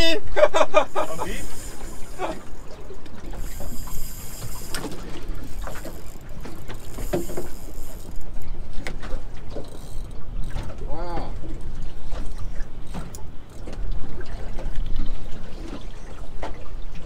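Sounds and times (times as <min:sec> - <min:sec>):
water slapping against hull: 0:00.3 - 0:17.0.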